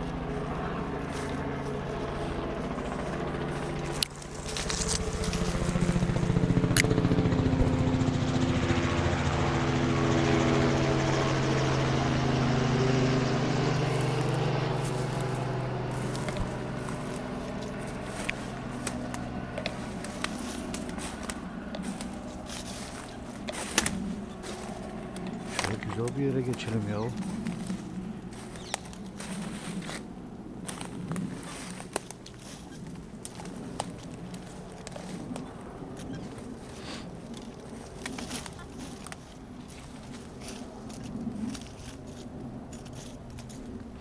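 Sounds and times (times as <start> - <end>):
helicopter droning: 0.0 - 44.0.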